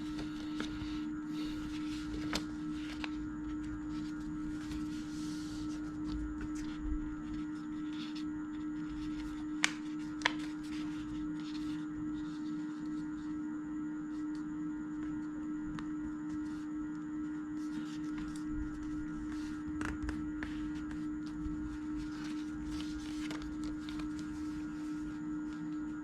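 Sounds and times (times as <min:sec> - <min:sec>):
paper rustling: 0:00.0 - 0:13.3, 0:17.6 - 0:25.9
electrical hum: 0:00.0 - 0:26.0.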